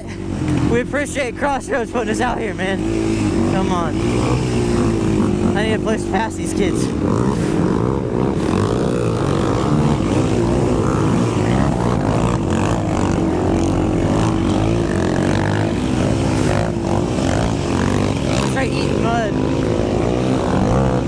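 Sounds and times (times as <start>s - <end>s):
quad engine revving: 0.0s - 21.0s.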